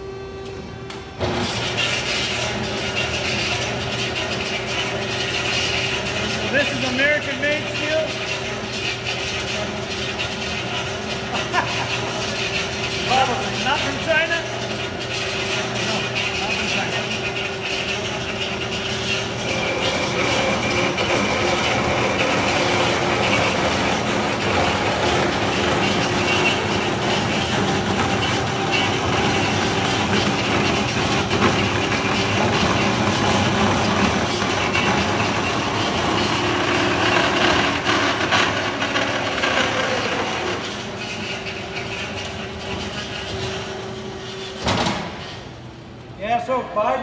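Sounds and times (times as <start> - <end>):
machinery hum: 0.0 - 47.0.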